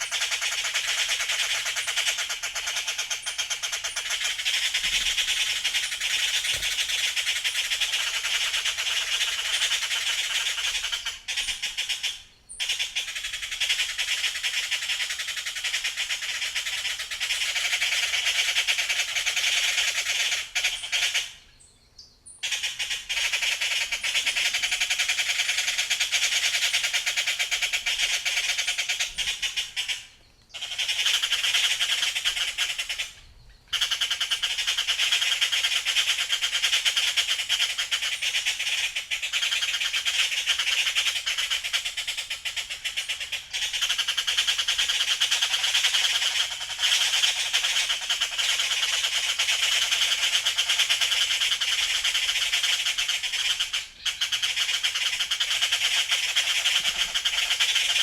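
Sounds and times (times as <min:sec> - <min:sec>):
chorus of birds chirping: 0:00.0 - 0:58.0.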